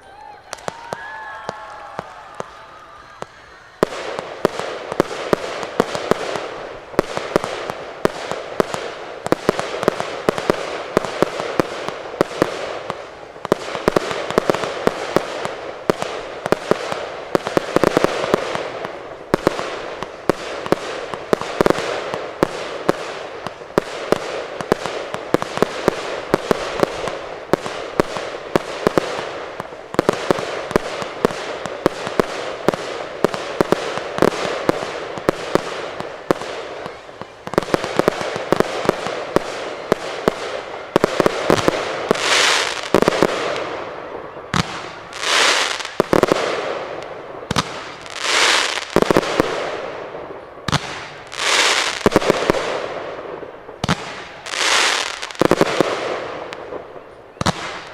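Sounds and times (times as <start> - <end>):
fireworks bangs: 0.0 - 57.9
fireworks crackling: 0.0 - 57.9.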